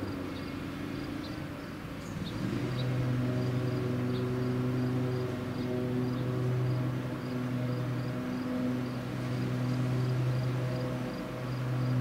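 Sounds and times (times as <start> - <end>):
electric train humming: 1.5 - 12.0.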